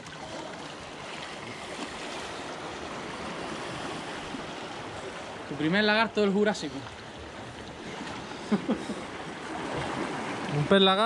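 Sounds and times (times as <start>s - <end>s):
surf washing against rocks: 0.0s - 11.0s.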